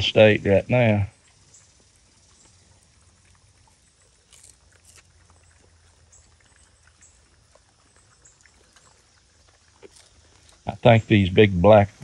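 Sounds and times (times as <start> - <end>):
pigs crunching and snuffling: 0.0 - 12.0.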